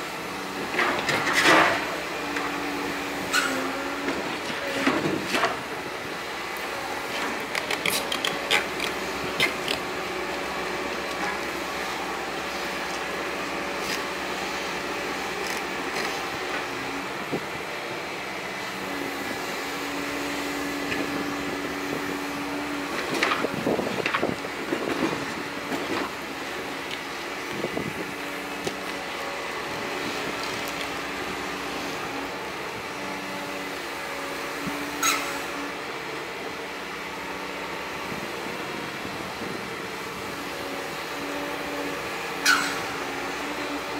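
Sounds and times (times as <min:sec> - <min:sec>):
excavator engine and hydraulics: 0:00.0 - 0:43.9.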